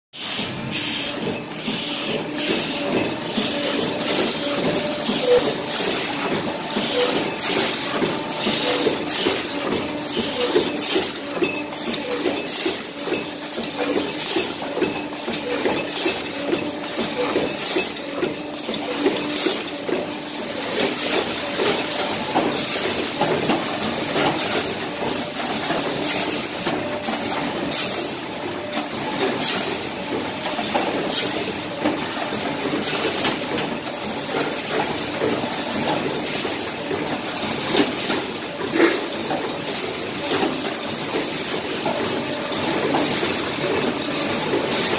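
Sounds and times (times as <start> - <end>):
forming presses clattering: 0.3 - 44.9.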